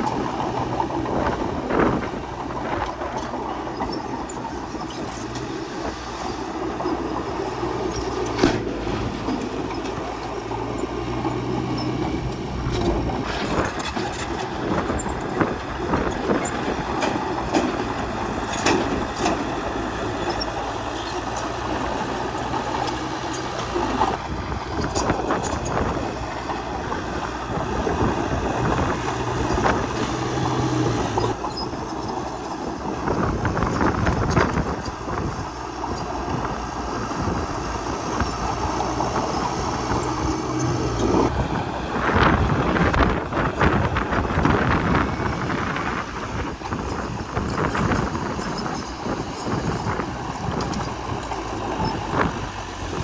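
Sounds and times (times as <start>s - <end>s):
bulldozer diesel engine: 0.0s - 53.0s
metallic clanks from tracks: 0.0s - 53.0s.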